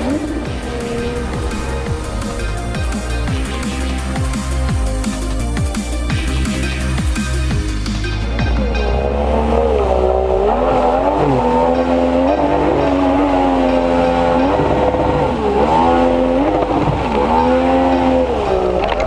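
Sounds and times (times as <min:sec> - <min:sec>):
outboard motor revving: 0:00.0 - 0:19.0.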